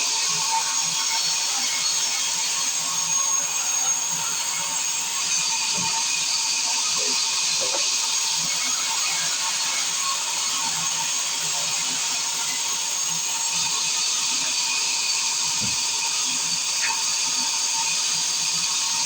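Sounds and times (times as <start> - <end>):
circular saw whining: 0.0 - 19.0.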